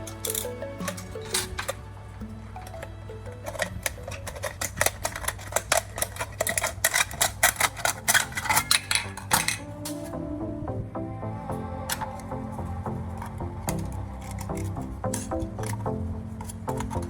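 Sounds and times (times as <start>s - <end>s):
background music sustained notes: 0.0s - 17.0s.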